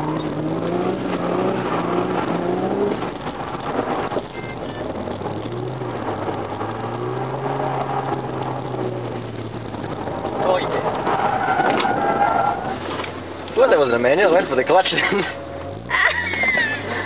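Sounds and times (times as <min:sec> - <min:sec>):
car engine running: 0:00.0 - 0:17.0
tyre and road noise: 0:00.0 - 0:17.0.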